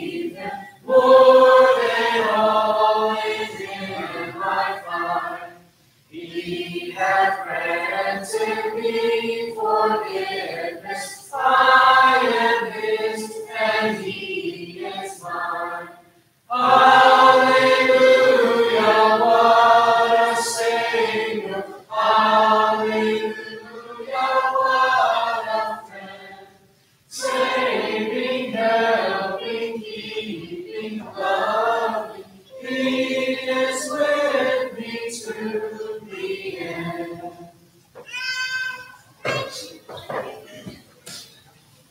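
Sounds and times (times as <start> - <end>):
congregation singing a hymn: 0.0 - 41.3.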